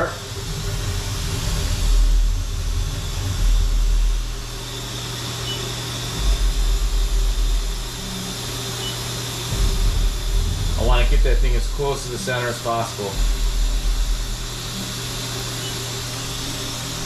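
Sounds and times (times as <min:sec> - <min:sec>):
deep rumble: 0:00.0 - 0:17.0
milling machine humming: 0:00.0 - 0:17.0.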